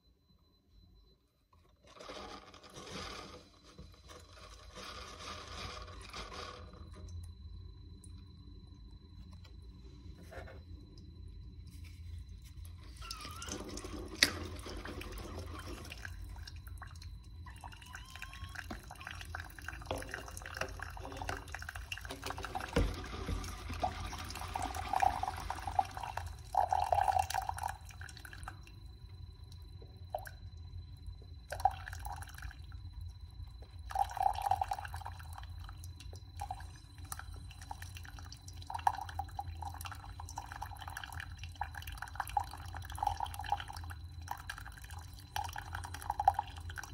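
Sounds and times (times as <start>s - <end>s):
coffee maker low hum: 0.0s - 46.9s
coffee dripping and gurgling: 1.5s - 46.9s.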